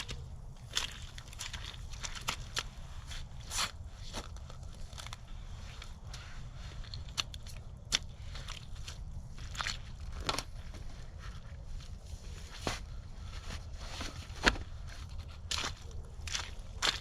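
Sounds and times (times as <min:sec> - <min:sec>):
digging crunches and scrapes: 0:00.0 - 0:17.0.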